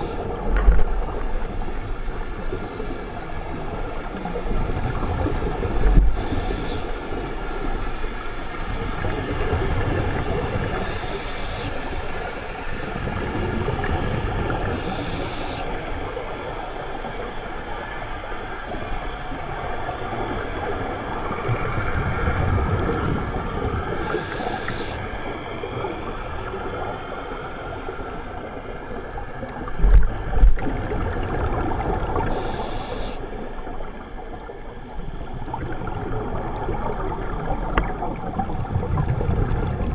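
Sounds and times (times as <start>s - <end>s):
regulator bubbles hissing: 0.0s - 39.9s
underwater watery wash: 0.0s - 39.9s.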